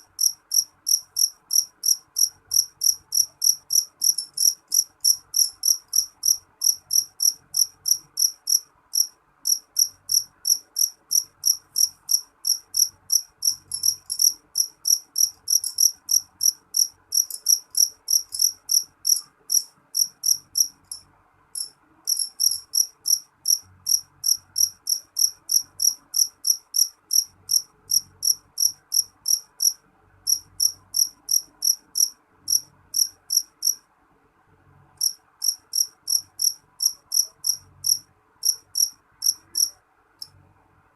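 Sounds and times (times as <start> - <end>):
cricket chirping: 0.0 - 21.0, 21.6 - 33.8, 35.0 - 40.3.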